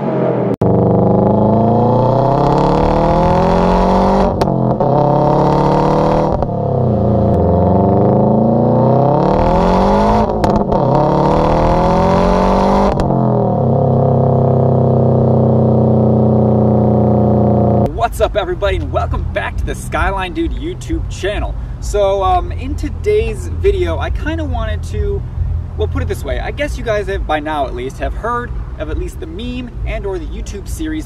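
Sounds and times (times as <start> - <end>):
car engine accelerating: 0.0 - 30.8.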